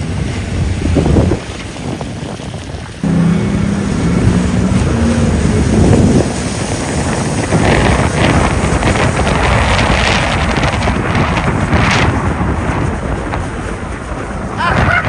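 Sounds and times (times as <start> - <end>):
jet ski engines running: 0.0 - 15.0
water spraying: 0.0 - 15.0
wind buffeting microphone: 0.0 - 15.0.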